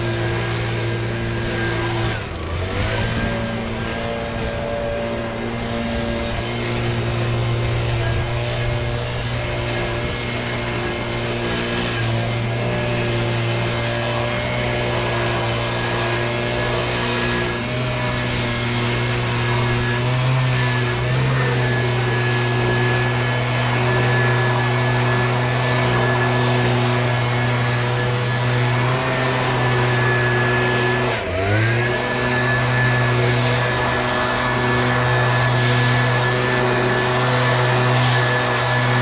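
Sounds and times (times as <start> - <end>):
leaf blower engine drone: 0.0 - 39.0.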